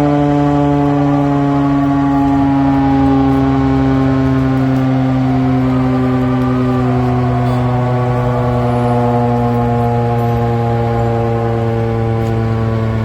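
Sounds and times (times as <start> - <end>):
loud siren wail with falling pitch: 0.0 - 13.0.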